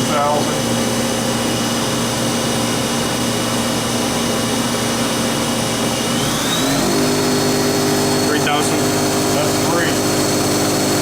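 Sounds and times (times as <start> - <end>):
lathe spindle whine: 0.0 - 11.0.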